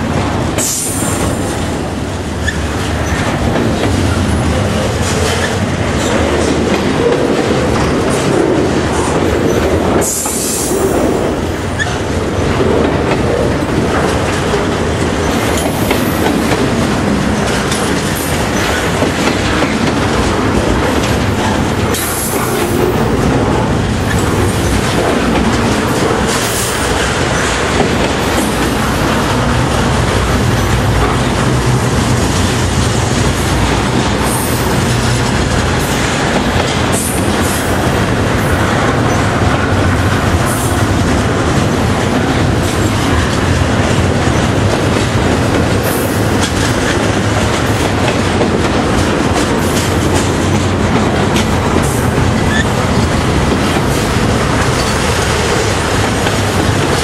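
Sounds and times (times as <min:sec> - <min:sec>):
train wheels rumbling and clattering: 0:00.0 - 0:57.0.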